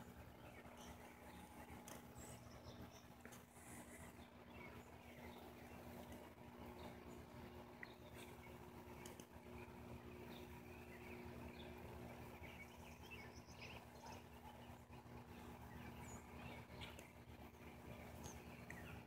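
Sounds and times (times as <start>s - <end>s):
faint bird chirps: 0.0s - 19.0s
low steady hum: 0.0s - 19.0s.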